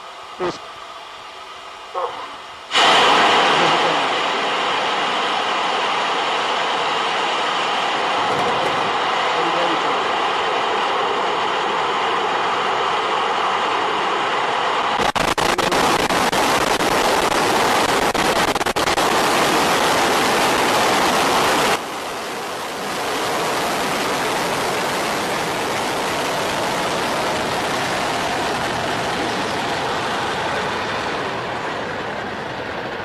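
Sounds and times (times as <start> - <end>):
rocket engines roaring and crackling: 0.0 - 33.0.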